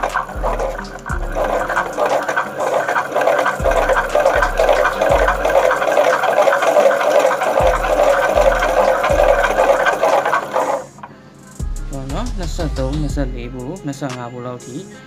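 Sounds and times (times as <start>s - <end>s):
generator whirring: 0.0s - 13.8s.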